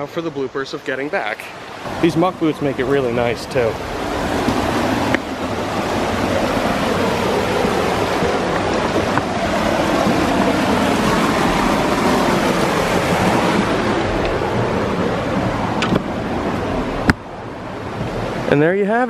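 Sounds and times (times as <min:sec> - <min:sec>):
stream rushing over rocks: 0:00.8 - 0:19.0.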